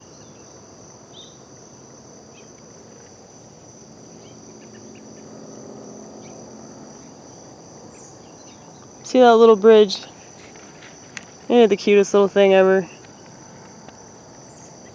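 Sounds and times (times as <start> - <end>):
crickets chirping: 0.0 - 14.9.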